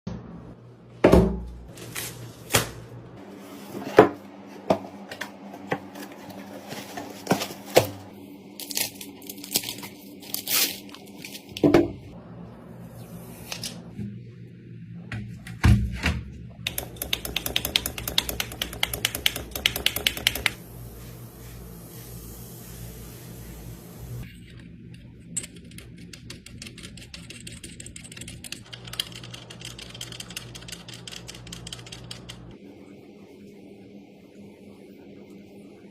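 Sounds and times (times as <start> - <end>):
low steady hum: 0.1 - 35.9.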